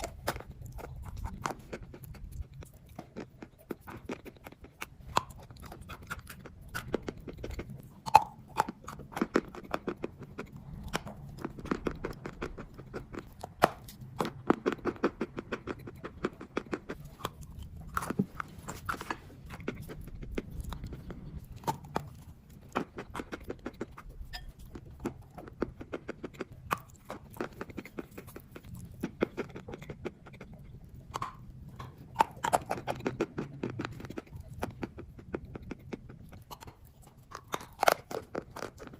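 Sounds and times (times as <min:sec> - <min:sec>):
chalk being chewed: 0:00.0 - 0:38.9
faint low hum: 0:00.0 - 0:38.9.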